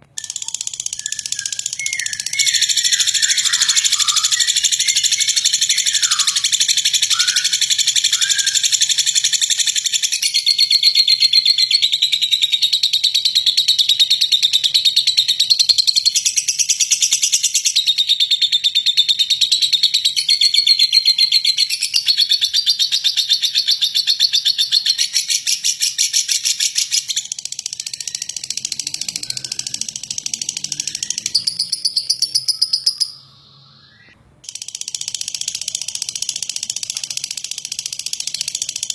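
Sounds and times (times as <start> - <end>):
lovebird chattering trill: 0.2 - 38.9.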